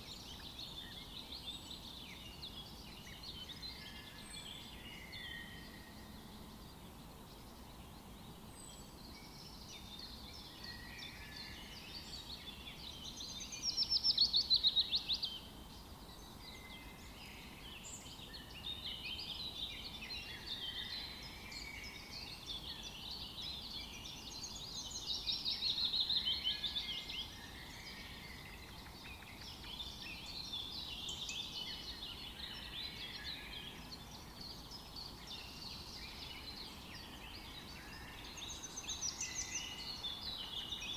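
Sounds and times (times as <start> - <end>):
background hiss: 0.0 - 40.9
songbirds singing in chorus: 0.0 - 40.9.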